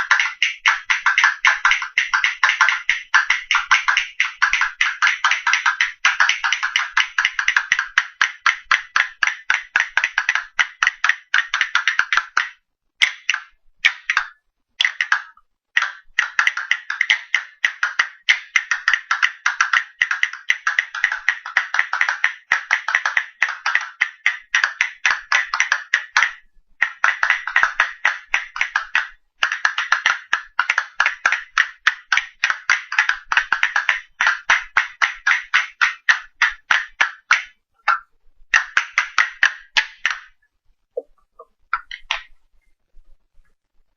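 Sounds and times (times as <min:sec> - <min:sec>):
castanets clicking: 0:00.0 - 0:40.4.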